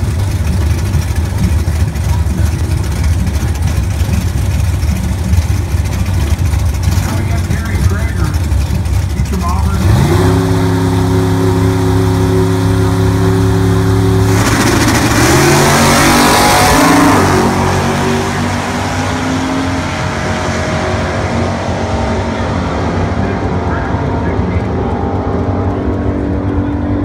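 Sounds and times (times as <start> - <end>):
drag racing car engines revving: 0.0 - 27.0.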